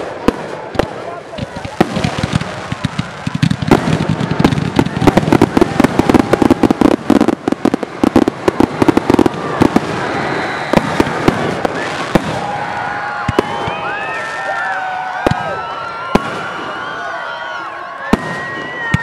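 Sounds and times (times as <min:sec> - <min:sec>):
crackling of burning fireworks: 0:00.0 - 0:19.0
fireworks bangs: 0:00.0 - 0:19.0.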